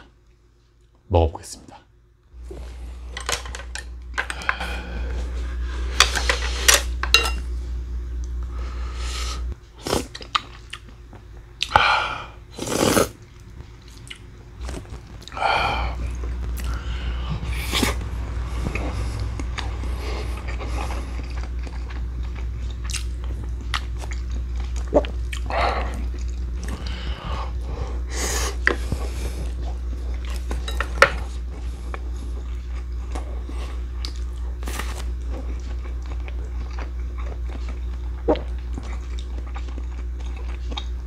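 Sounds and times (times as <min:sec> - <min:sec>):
steady low hum: 0:00.0 - 0:41.0
man chewing food: 0:08.1 - 0:41.0.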